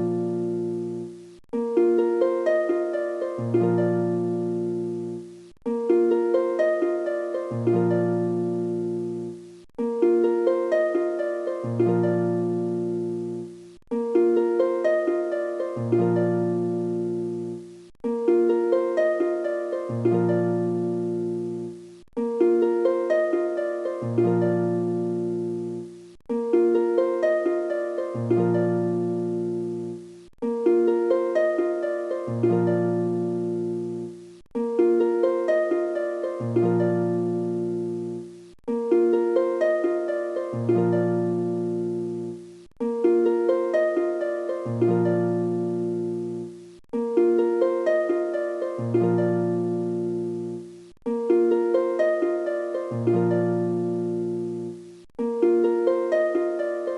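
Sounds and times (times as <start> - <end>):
looping plucked notes: 0.0 - 56.9.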